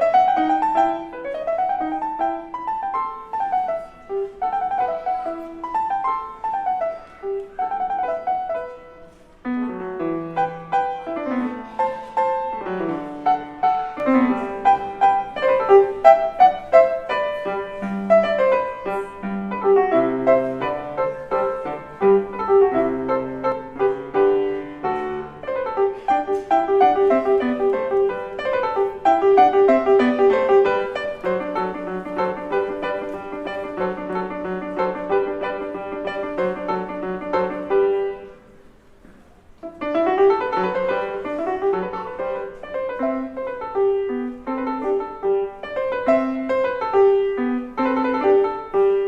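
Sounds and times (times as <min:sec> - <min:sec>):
piano piece: 0:00.0 - 0:49.0.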